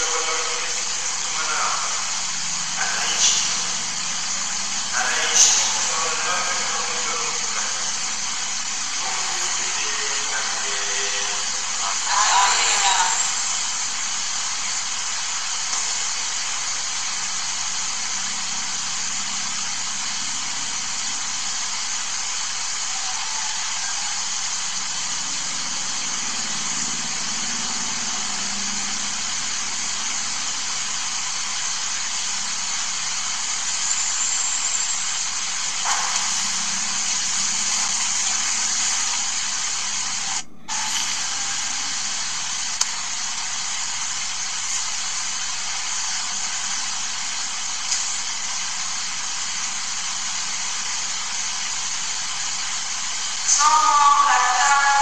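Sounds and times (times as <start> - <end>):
electric fans rushing air: 0.0 - 55.0.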